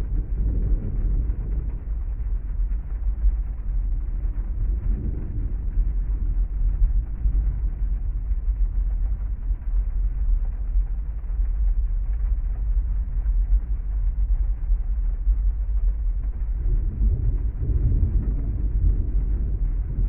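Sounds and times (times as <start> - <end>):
heavy rain: 0.0 - 20.0
thunder rumbling: 0.0 - 20.0.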